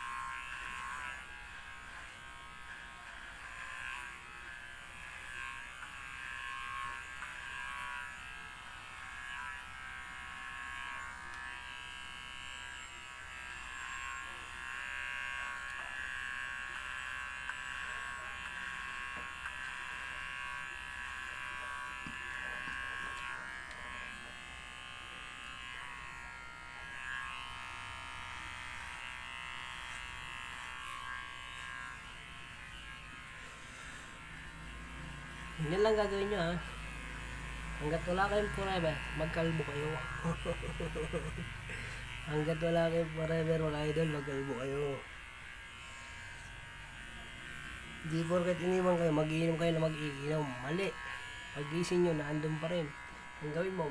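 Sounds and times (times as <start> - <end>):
electric hair clippers buzzing: 0.0 - 53.9.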